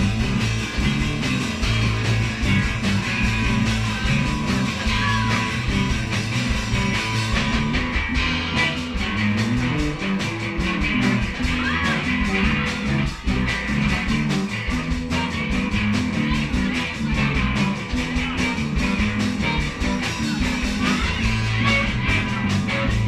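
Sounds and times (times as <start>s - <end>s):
bass and electric guitar: 0.0s - 23.0s
bent lead guitar notes: 0.0s - 23.0s
drumming: 0.0s - 23.0s.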